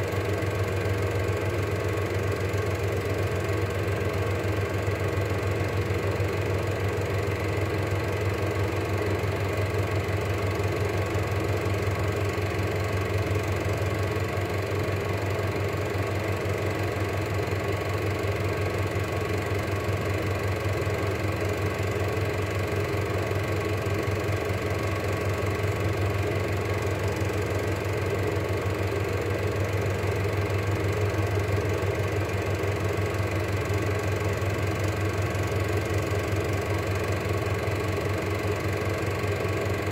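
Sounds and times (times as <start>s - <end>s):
film projector clatter: 0.0s - 39.9s.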